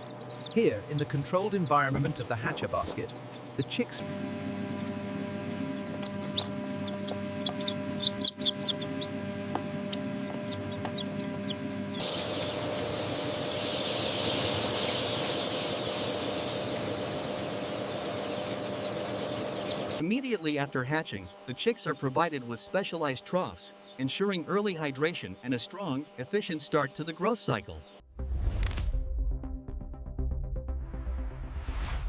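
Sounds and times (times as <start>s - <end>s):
steady hum: 0.0s - 27.7s
chicks peeping: 0.0s - 28.0s.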